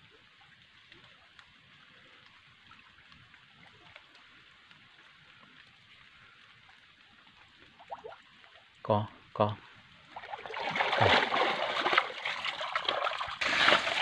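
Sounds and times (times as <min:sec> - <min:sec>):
shallow water trickling: 0:00.0 - 0:14.0
small water drips and splashes: 0:00.0 - 0:14.0.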